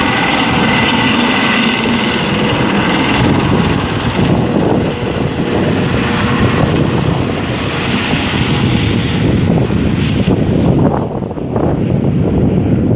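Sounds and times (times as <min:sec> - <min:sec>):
helicopter turbine and rotor: 0:00.0 - 0:12.9
wind rumbling on microphone: 0:00.0 - 0:12.9.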